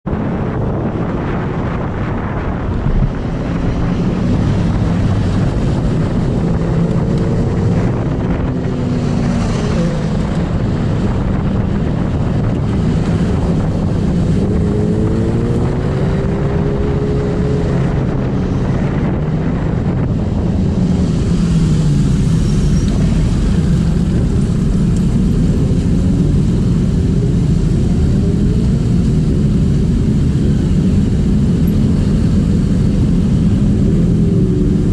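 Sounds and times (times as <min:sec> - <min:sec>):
road and wind noise: 0:00.0 - 0:34.9
motorcycle engines revving: 0:00.1 - 0:34.9.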